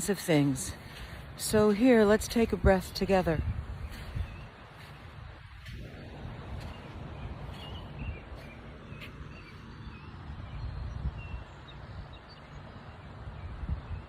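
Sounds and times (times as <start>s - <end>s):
gentle surf on beach: 0.0s - 14.0s
wind rumbling on microphone: 0.0s - 14.0s.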